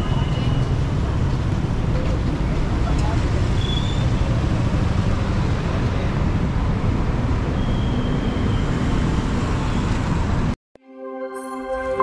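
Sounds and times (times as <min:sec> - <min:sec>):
road traffic noise: 0:00.0 - 0:10.6.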